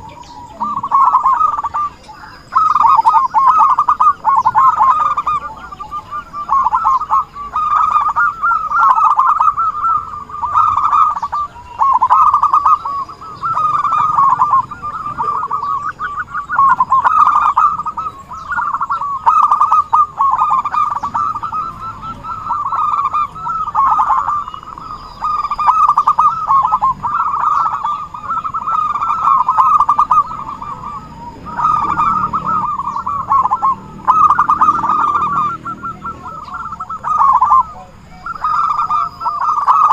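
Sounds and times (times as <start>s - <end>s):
doves trilled cooing: 0.0s - 39.9s.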